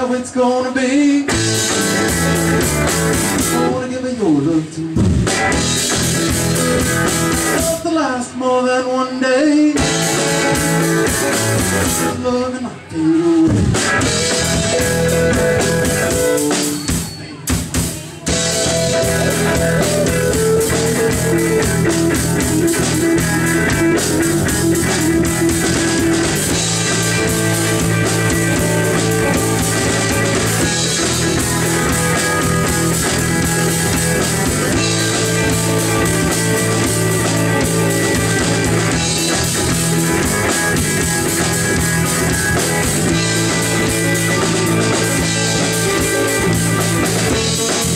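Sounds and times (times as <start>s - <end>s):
live rock band playing: 1.2s - 4.2s, 4.9s - 8.4s, 9.7s - 47.9s.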